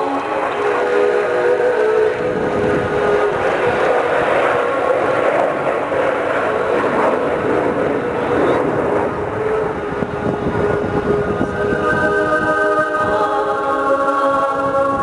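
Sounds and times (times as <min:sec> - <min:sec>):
jet bomber engines roaring: 0:00.0 - 0:15.0.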